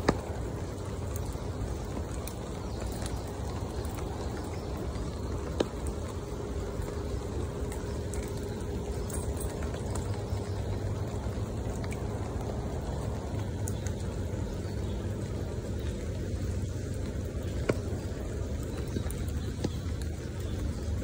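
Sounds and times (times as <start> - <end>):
rain patter on water: 0.0 - 21.0
sharp drip plinks: 0.0 - 21.0.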